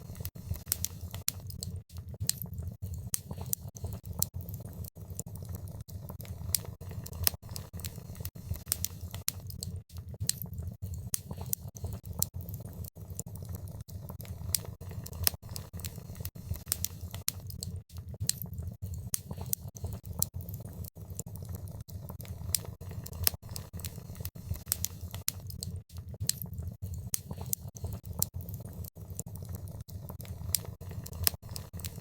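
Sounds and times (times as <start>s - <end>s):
fire crackling and snapping: 0.0s - 32.0s
low rumble of flames: 0.0s - 32.0s.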